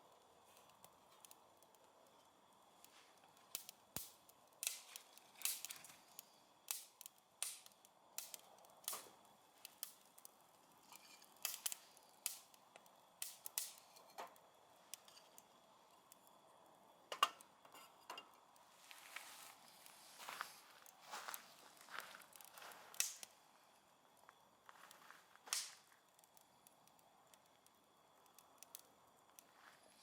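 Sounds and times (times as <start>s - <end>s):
faint steady hiss: 0.0s - 30.0s
wood fire crackling: 0.0s - 30.0s.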